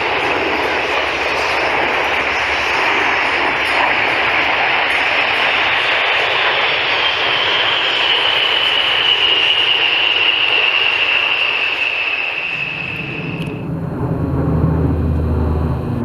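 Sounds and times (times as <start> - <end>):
aircraft engine roar and whine: 0.0 - 16.0.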